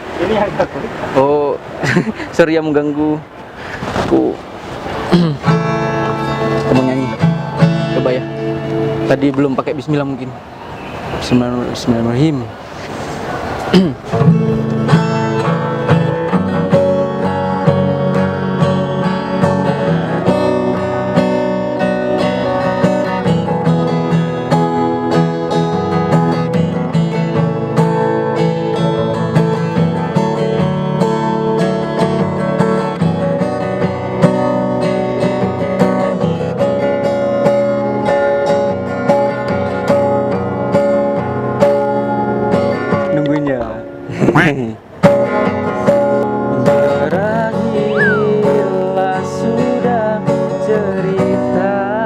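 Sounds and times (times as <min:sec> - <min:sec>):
acoustic guitar chords: 0:00.0 - 0:11.3, 0:12.5 - 0:52.0.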